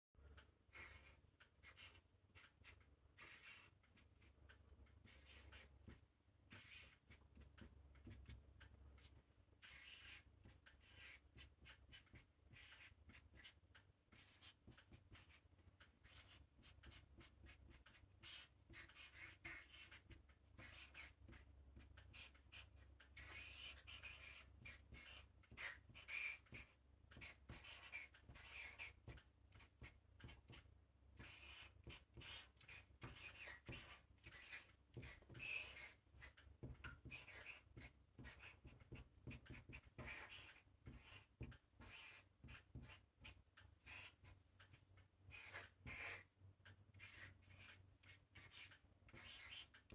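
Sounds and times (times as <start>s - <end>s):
marker pen scratching on paper: 0.2s - 49.9s.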